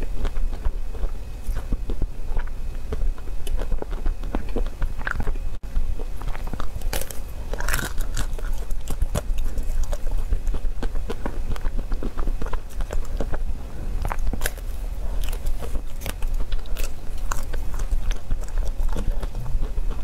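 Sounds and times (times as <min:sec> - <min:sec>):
crunching and chewing ice cream bar: 0:00.0 - 0:20.0.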